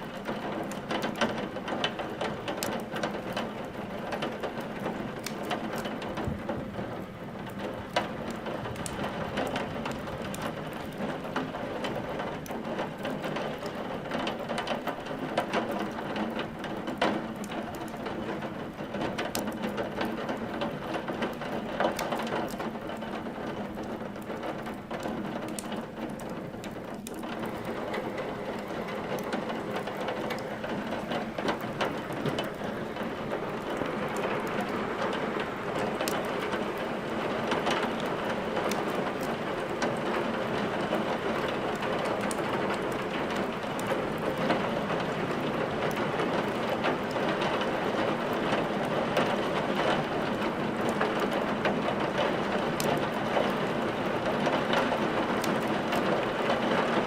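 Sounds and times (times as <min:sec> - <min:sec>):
firewood crackling and popping: 0:00.0 - 0:57.0
steady rain hiss: 0:00.0 - 0:57.0.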